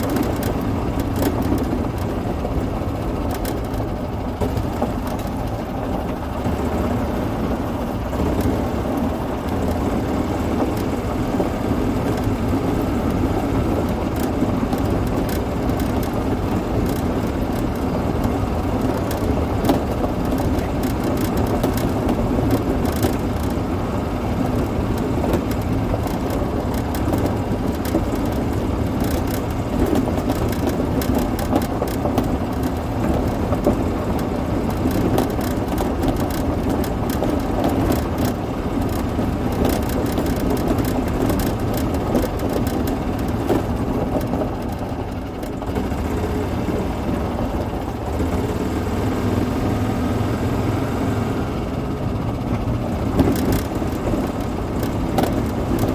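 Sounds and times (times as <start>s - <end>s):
tyres crackling on gravel: 0.0s - 48.4s, 52.2s - 55.9s
golf cart running: 0.0s - 55.9s.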